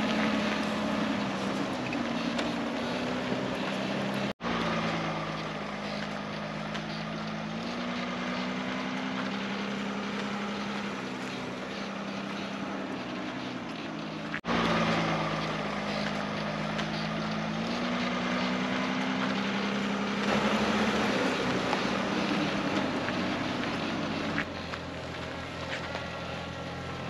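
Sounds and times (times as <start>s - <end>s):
drone propellers humming: 0.0s - 27.0s.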